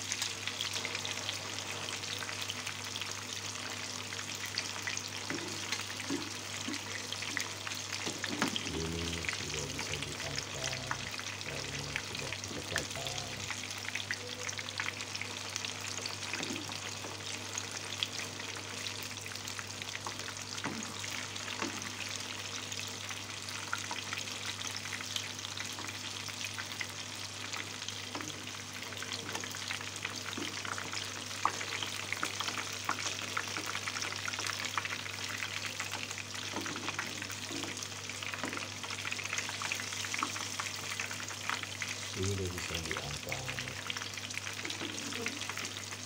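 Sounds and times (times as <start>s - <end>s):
tofu sizzling in hot oil: 0.0s - 8.7s, 13.4s - 42.2s, 43.8s - 46.0s.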